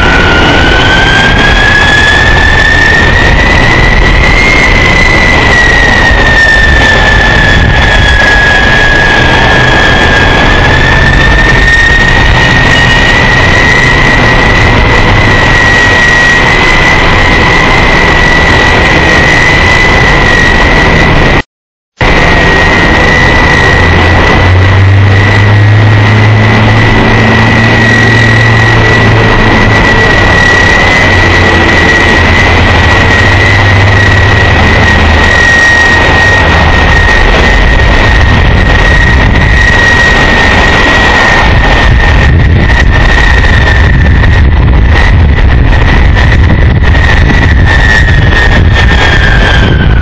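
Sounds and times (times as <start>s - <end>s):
low hum: 0.0s - 21.4s, 22.0s - 50.0s
jet engines whining: 0.0s - 50.0s.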